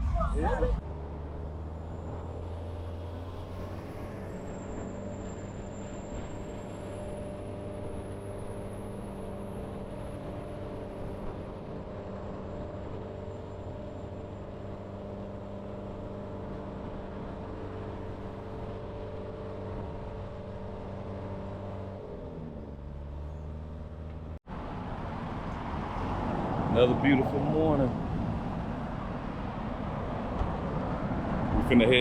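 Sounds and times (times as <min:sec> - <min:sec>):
vehicle engine humming: 0:00.0 - 0:32.0.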